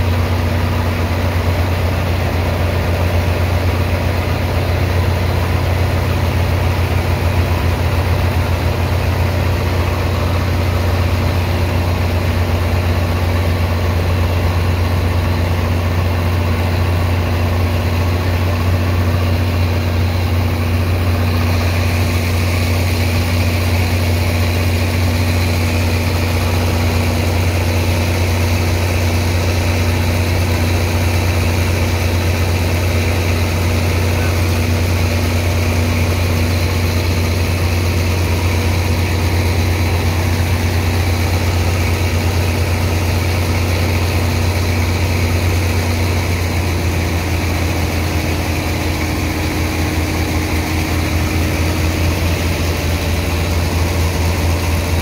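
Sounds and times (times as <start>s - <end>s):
pump engine humming: 0.0s - 55.0s.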